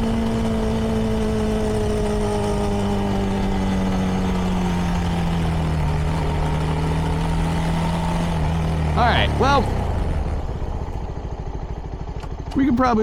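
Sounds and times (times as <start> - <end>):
motorcycle engine slowing: 0.0 - 13.0.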